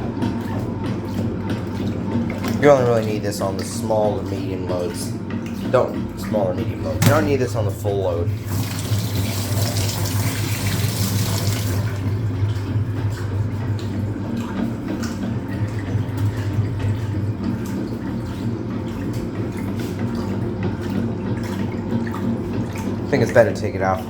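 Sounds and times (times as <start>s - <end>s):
washing machine motor hum: 0.0s - 24.0s
water churning and splashing: 0.0s - 24.0s.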